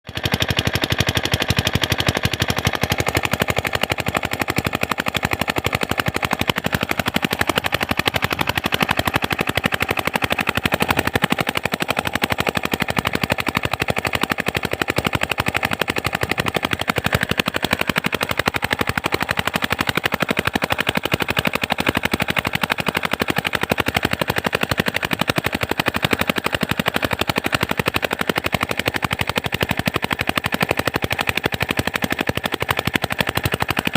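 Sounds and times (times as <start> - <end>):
diesel engine chugging: 0.1 - 33.9.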